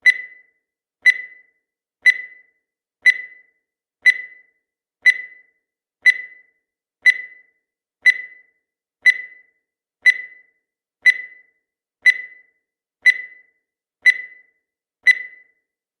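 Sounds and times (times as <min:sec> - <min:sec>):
high-pitched timer beeps: 0:00.0 - 0:15.7.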